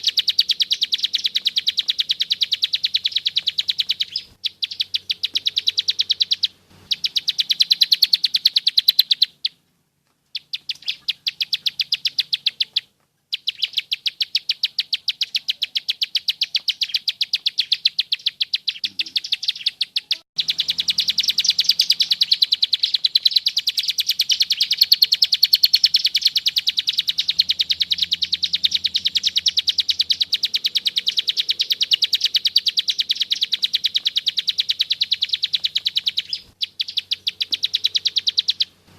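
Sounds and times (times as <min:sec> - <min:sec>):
bird rapid clicking call: 0:00.0 - 0:09.6, 0:10.3 - 0:38.8.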